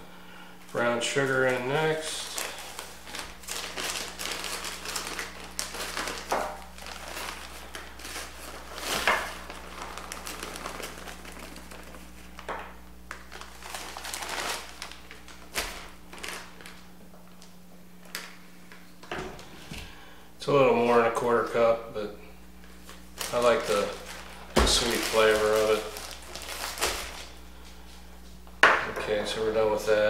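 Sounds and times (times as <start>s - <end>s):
plastic bag crinkling: 1.1s - 19.6s, 22.6s - 28.4s.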